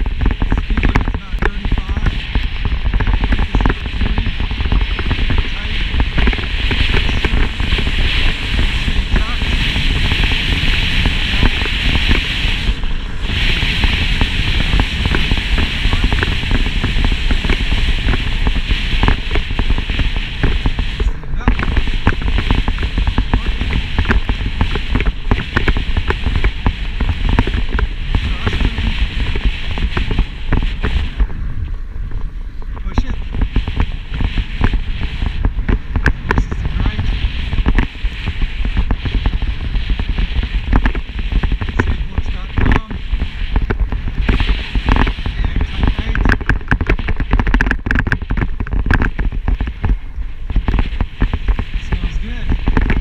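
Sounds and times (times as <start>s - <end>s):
bike rattling over rough asphalt: 0.0s - 53.0s
wind buffeting microphone: 0.0s - 53.0s.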